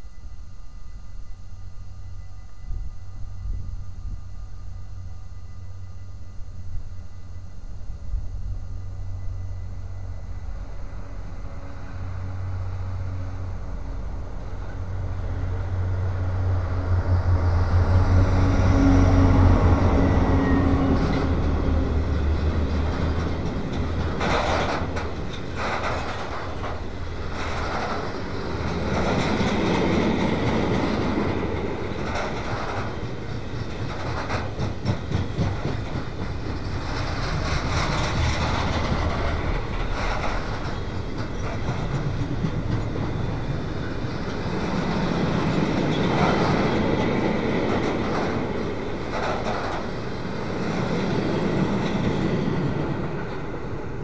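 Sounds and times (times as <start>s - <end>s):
diesel locomotives passing: 0.0s - 54.0s
train wheels clicking on rail joints: 10.6s - 54.0s.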